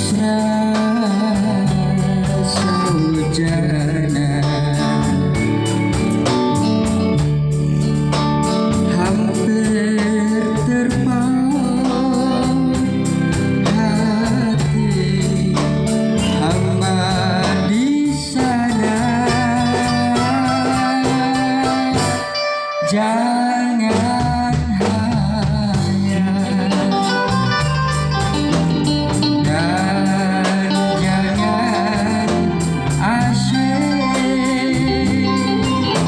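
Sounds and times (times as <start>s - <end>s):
band playing pop music: 0.0s - 36.0s.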